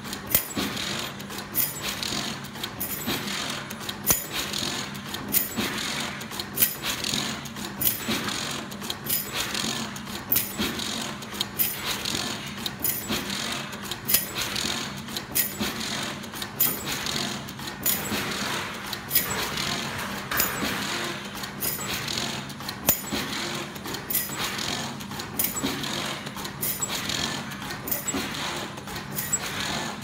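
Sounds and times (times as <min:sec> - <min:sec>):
sharp machine clicks: 0:00.0 - 0:30.0
wire mesh machine clattering: 0:00.2 - 0:30.0.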